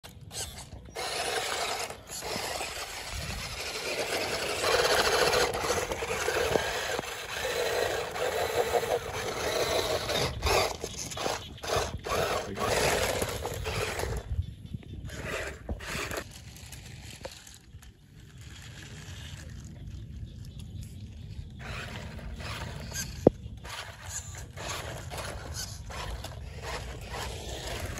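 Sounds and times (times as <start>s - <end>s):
toy motors whirring: 0.0s - 14.4s, 15.0s - 27.9s.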